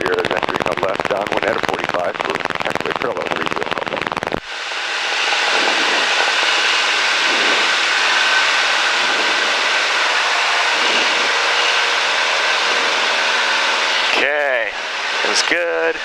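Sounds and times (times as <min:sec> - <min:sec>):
propeller plane engine at full power: 0:00.0 - 0:16.0.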